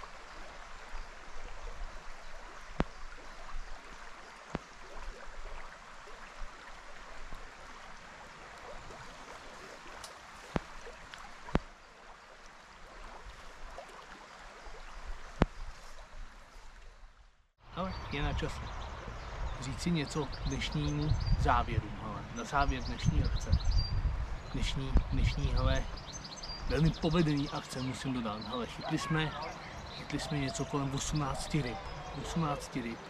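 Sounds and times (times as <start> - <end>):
river water running: 0.0 - 33.0.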